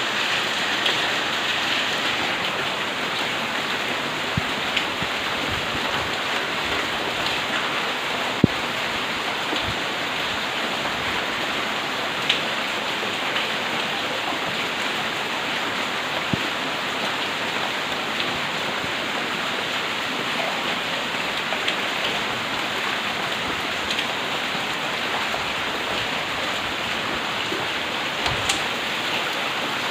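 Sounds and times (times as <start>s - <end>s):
heavy rain hissing: 0.0s - 29.9s
raindrops tapping close by: 0.1s - 29.9s.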